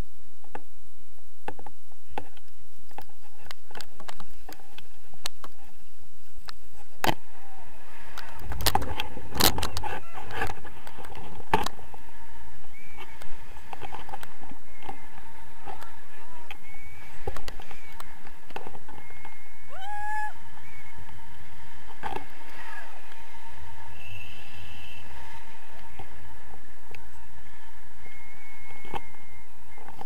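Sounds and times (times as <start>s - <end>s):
wind buffeting microphone: 0.9s - 30.0s.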